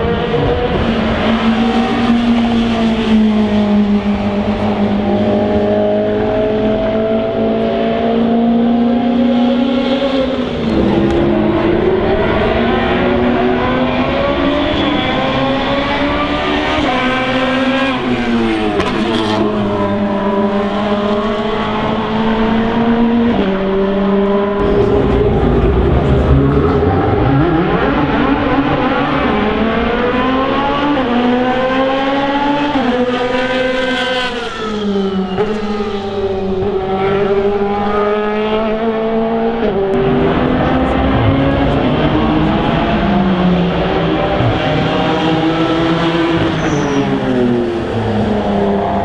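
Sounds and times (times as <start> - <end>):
racing car engines revving: 0.0 - 49.0.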